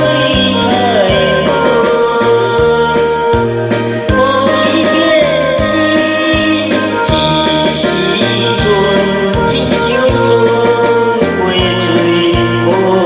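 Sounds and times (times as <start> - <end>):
karaoke backing track: 0.0 - 13.0
man singing into microphone: 0.0 - 13.0.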